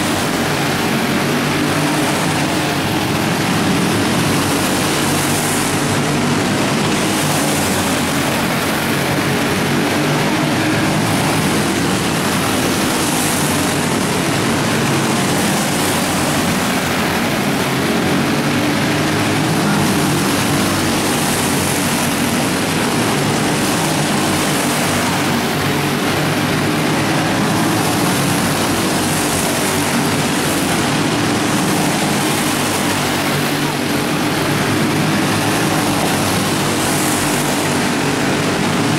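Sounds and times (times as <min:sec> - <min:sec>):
go-kart engines racing: 0:00.0 - 0:38.9.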